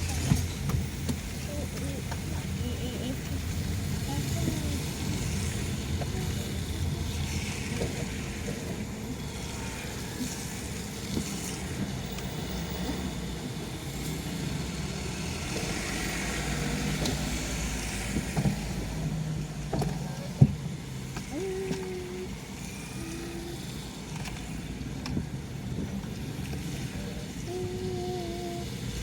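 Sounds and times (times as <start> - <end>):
tyres hissing on wet road: 0.0 - 27.5
car driving hum: 0.0 - 29.0.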